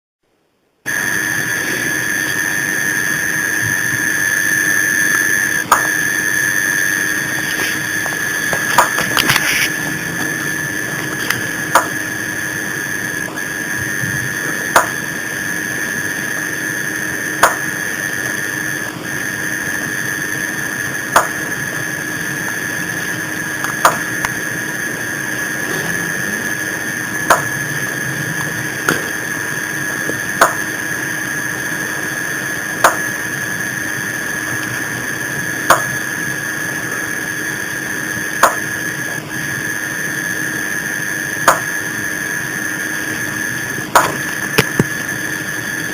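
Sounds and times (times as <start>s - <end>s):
high whine: 0.3s - 45.9s.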